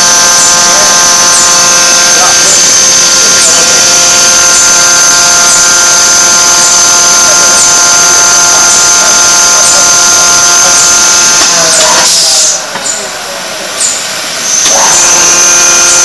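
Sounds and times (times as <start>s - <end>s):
forging machine whining: 0.0s - 16.0s.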